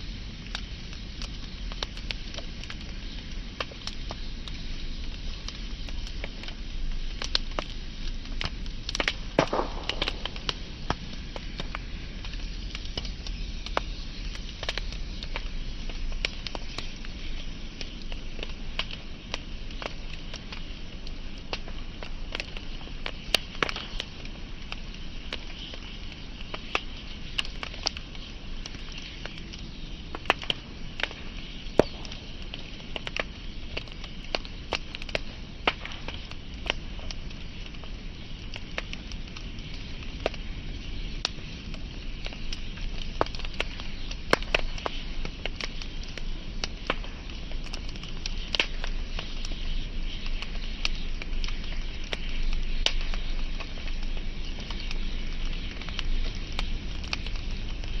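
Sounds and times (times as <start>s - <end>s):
low hiss of burning logs: 0.0s - 58.0s
wood fire popping and snapping: 0.0s - 58.0s.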